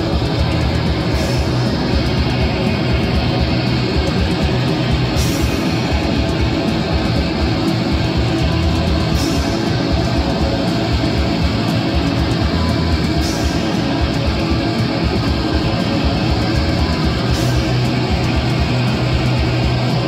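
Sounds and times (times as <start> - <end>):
cymbal crash: 0.0 - 20.0
live rock band playing: 0.0 - 20.0.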